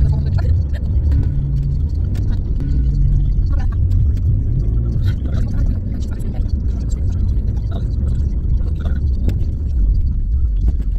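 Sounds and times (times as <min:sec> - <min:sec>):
car interior road and engine noise: 0:00.0 - 0:10.9.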